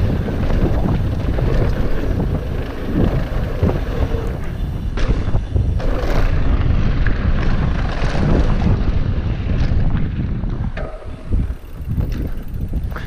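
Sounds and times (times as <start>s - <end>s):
bike clicks and rattles: 0.0s - 13.0s
bike tyres rolling over dirt: 0.0s - 13.0s
wind on microphone: 0.0s - 13.0s.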